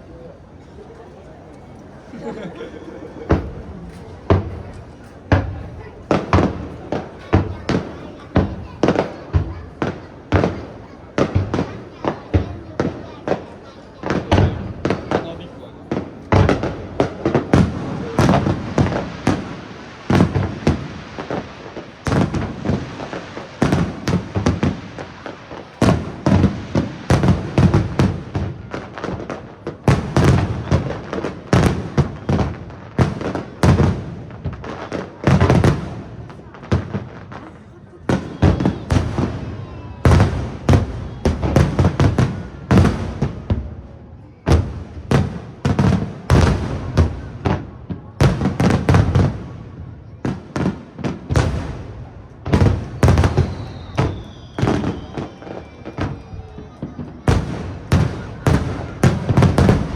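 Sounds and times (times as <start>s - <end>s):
firework shells booming: 3.0s - 43.8s, 44.5s - 55.0s, 57.1s - 59.9s.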